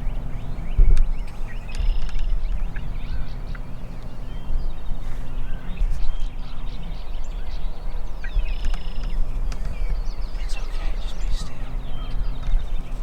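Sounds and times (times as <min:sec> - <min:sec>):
steady low rumble: 0:00.0 - 0:13.0
wild turkeys calling: 0:00.0 - 0:13.0.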